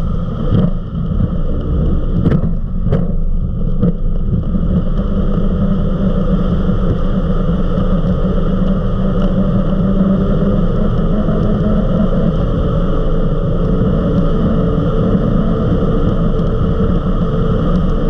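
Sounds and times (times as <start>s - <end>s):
powerboat engine drone: 0.0s - 18.0s.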